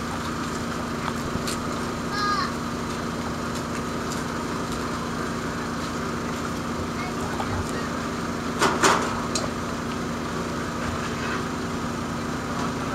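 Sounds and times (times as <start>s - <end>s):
diesel trucks idling: 0.0s - 12.9s.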